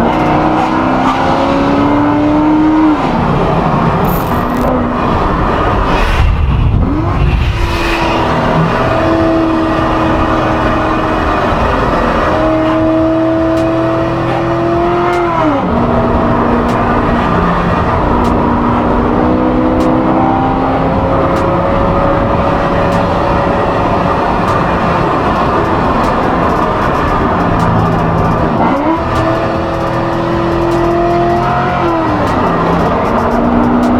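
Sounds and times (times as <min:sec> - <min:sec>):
car engine accelerating hard: 0:00.0 - 0:33.9.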